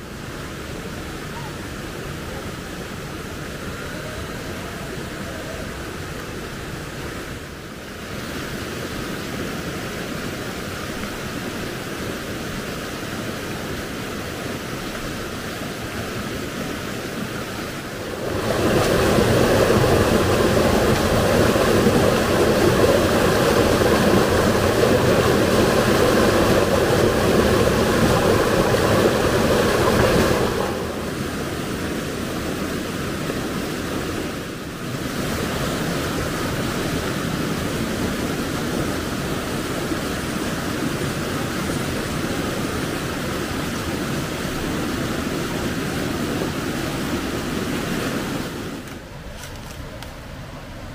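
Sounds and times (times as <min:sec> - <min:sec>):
rushing river water: 0:00.0 - 0:50.9.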